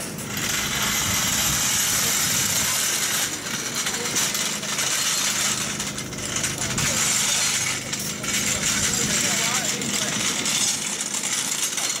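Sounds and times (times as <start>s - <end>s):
voices: 0.3s - 12.0s.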